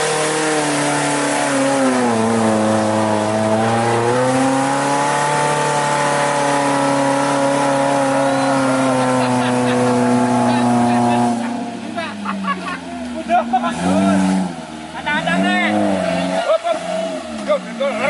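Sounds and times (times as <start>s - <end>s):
jeep engine revving in mud: 0.0s - 18.0s.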